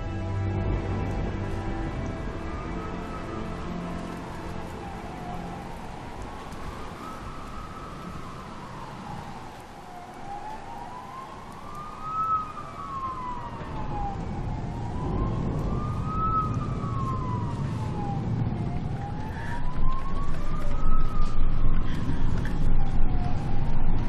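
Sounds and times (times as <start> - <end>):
low rumble: 0.0 - 8.8, 13.2 - 24.0
emergency siren wailing: 0.0 - 24.0.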